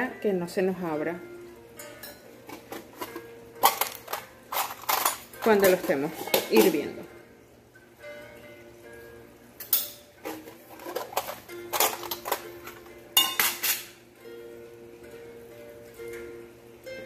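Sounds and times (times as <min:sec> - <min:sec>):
background music with held notes: 0:00.0 - 0:17.0.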